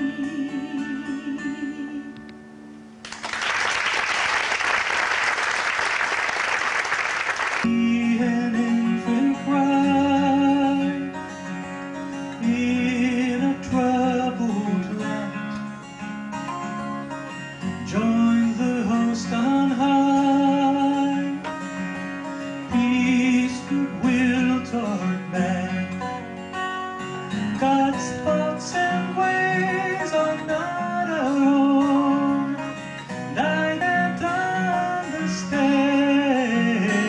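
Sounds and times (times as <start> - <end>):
acoustic guitar: 0.0 - 37.0.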